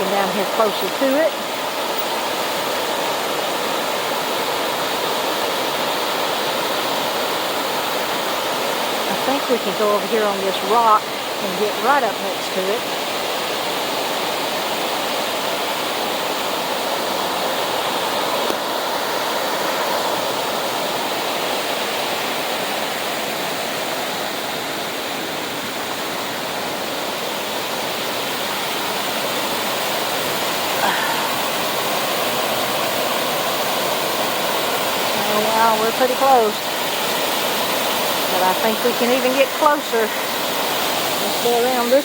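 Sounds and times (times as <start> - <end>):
waterfall roaring: 0.0 - 42.0.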